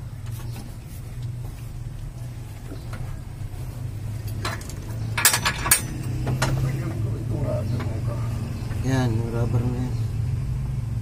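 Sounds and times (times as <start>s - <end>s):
radiator rattling clatter: 0.0s - 9.2s.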